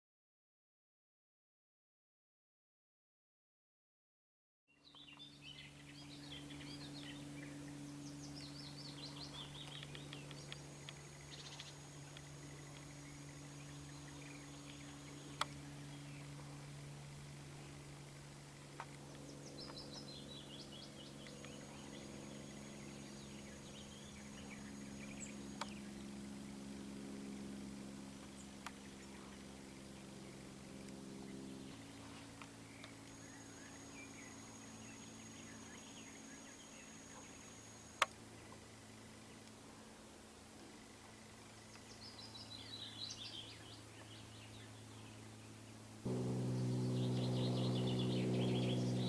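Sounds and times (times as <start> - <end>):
songbirds chirping: 4.7 - 27.4, 28.2 - 40.0, 40.8 - 49.0
steady low hum: 5.0 - 41.6, 44.6 - 49.0.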